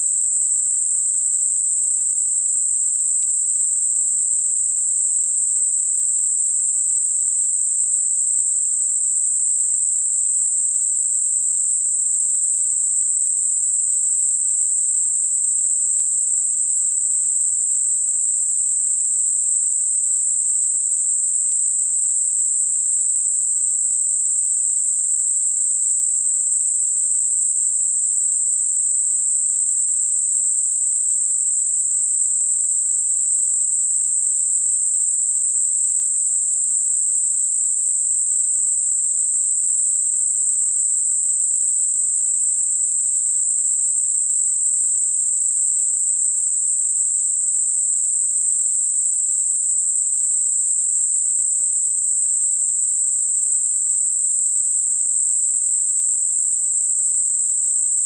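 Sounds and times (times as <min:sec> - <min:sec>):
steady high-pitched hiss: 0:00.0 - 0:58.0.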